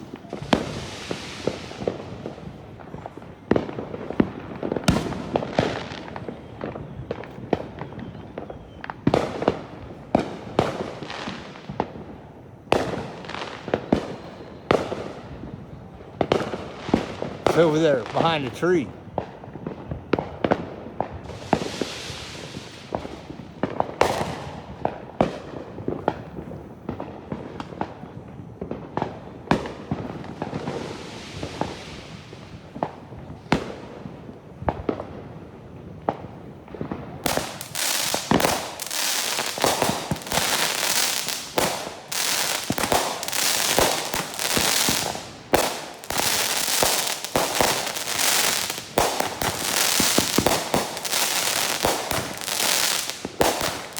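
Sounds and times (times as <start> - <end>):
firecrackers rapid crackling pops: 0.0 - 53.9
firework bangs: 0.0 - 53.9.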